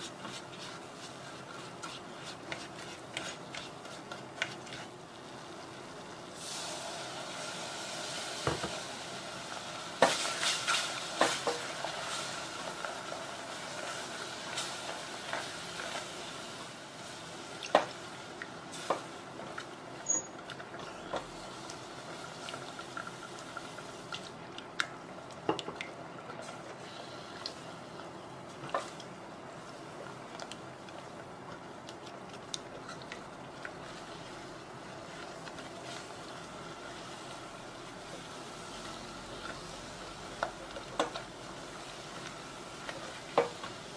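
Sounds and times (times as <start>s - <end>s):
roux sizzling: 0.0s - 43.9s.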